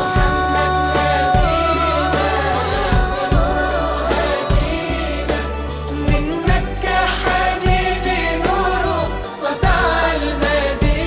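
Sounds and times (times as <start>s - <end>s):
devotional singing: 0.0s - 11.0s
low irregular beats: 0.0s - 11.0s.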